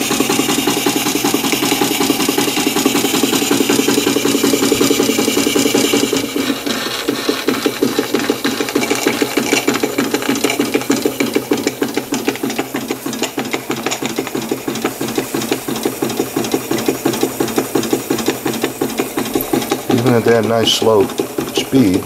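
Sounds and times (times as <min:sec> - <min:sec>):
engine mechanism clatter: 0:00.0 - 0:22.0
model steam engine chugging: 0:00.0 - 0:22.0.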